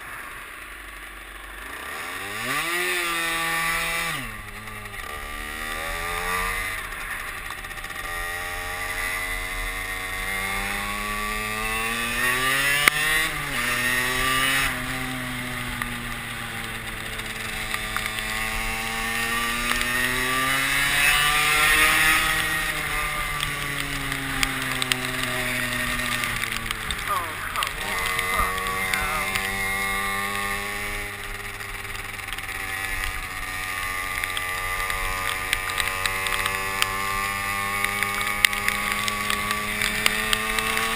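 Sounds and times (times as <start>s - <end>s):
moped engine revving: 0.0s - 40.9s.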